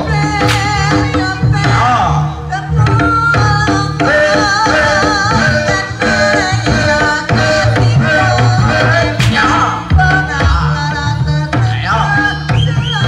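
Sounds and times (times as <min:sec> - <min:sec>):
hand-drum strokes: 0:00.0 - 0:01.9, 0:03.0 - 0:11.8.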